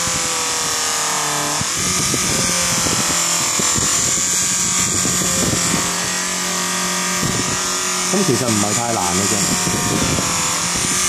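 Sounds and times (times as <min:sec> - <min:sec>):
metal rubbing on buffing wheel: 0:00.0 - 0:11.0
polishing machine motor humming: 0:00.0 - 0:11.0.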